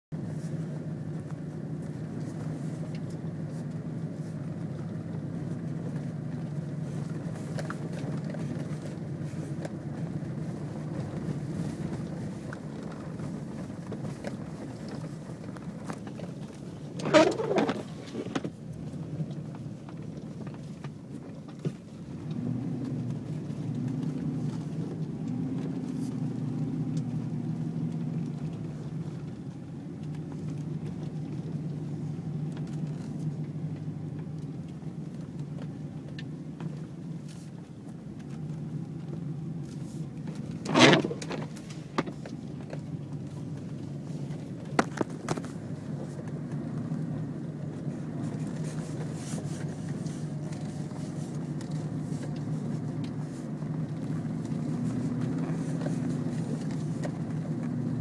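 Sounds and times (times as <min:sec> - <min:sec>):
vehicle engine and tyre drone: 0:00.1 - 0:58.0.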